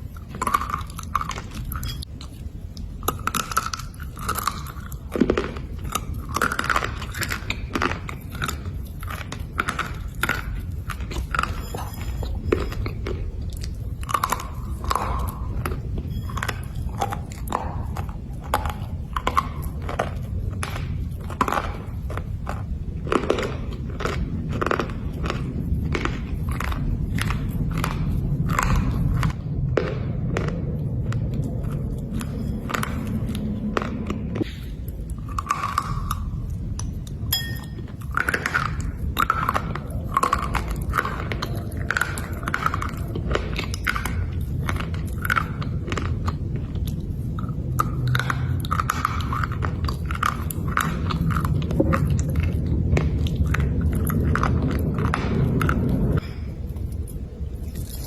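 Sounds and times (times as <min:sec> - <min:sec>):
low background rumble: 0:00.0 - 0:58.0
slate crunching when chewed: 0:00.0 - 0:58.0.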